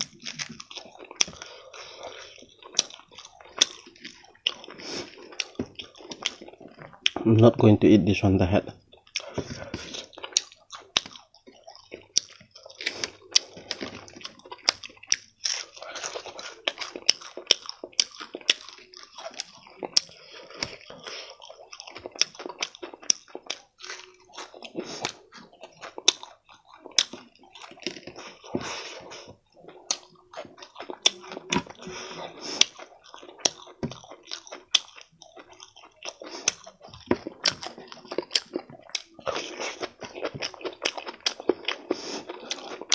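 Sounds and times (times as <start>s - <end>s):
person chewing and crunching: 0.0s - 42.9s.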